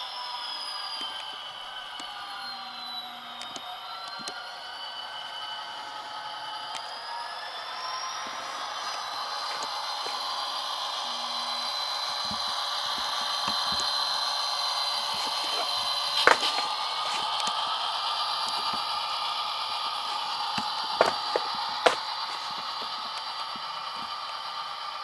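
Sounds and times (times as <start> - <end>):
model locomotive diesel engine sound: 0.0 - 25.0.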